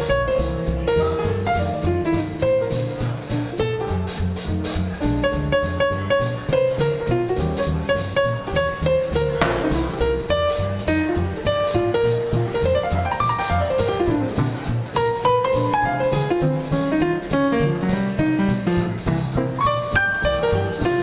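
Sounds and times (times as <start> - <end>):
swing band playing: 0.0 - 21.0.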